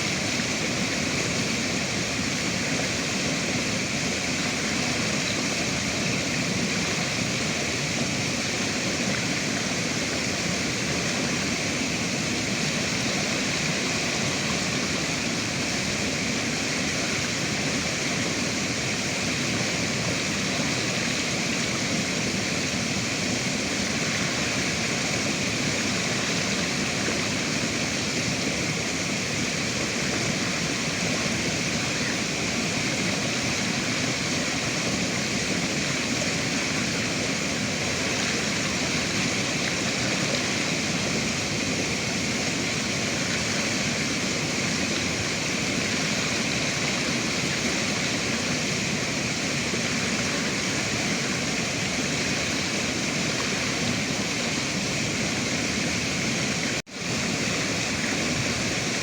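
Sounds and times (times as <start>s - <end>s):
rushing river water: 0.0s - 59.0s.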